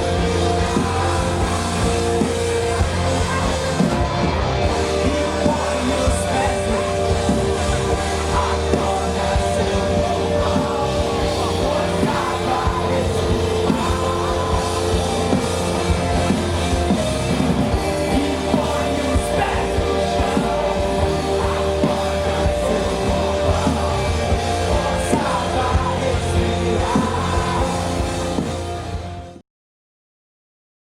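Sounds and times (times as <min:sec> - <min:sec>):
rock band playing with singing: 0:00.0 - 0:29.4.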